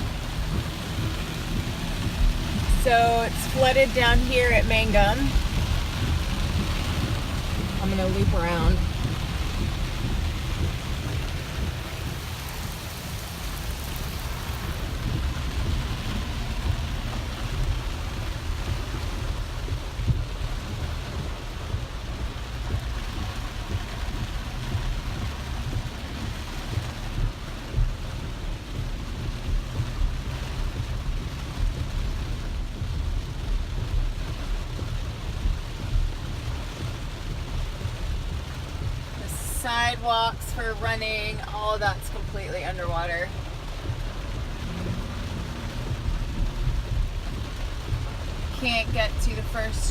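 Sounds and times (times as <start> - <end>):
car driving rumble: 0.0 - 49.9
heavy rain on a car: 0.0 - 49.9.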